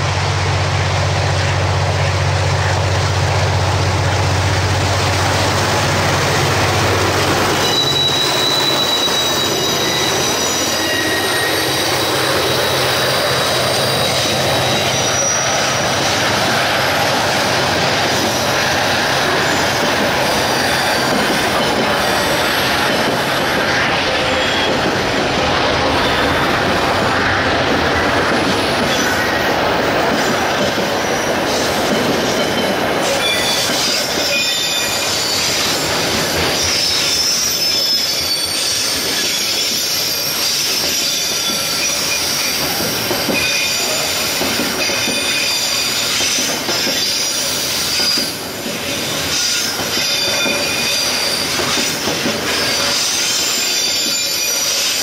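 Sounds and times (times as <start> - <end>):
freight train rolling past: 0.0 - 55.0
wheels squealing on rails: 0.0 - 55.0.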